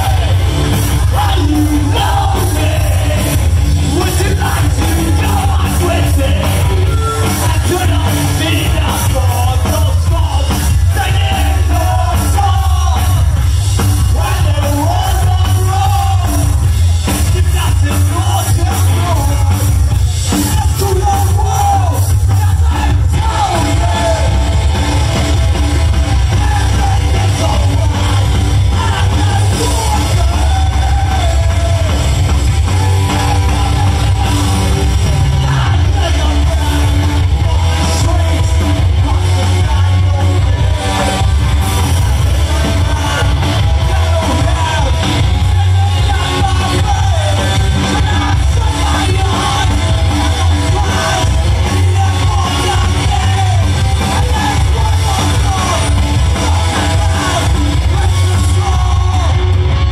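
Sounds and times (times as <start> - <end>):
singer shouting vocals: 0.0 - 25.3, 26.0 - 59.9
live rock band playing: 0.0 - 59.9.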